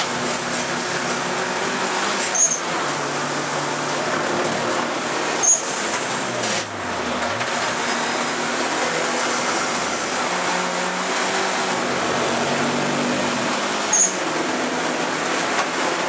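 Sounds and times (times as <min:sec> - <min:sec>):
race car engine under load: 0:00.0 - 0:16.0.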